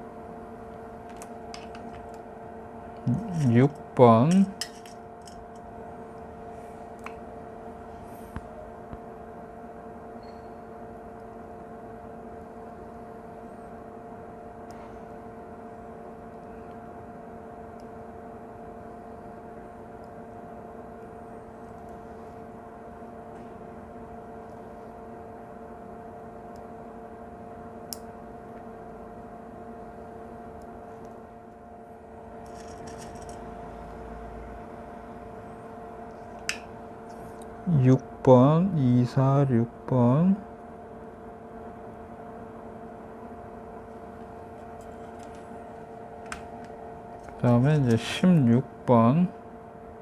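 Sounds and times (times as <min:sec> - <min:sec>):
electrical hum with whir: 0:00.0 - 0:50.0.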